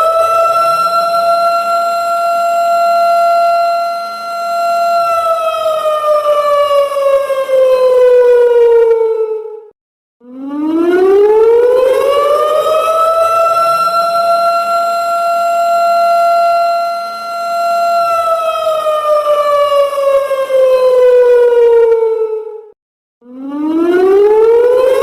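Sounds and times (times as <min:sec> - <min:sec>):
siren wail: 0:00.0 - 0:25.0.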